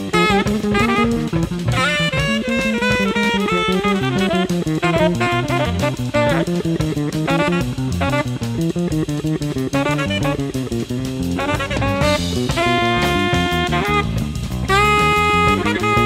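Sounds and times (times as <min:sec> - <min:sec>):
bass: 0:00.0 - 0:16.0
drum kit: 0:00.0 - 0:16.0
jazz fusion band: 0:00.0 - 0:16.0
lead melodic line: 0:00.0 - 0:16.0.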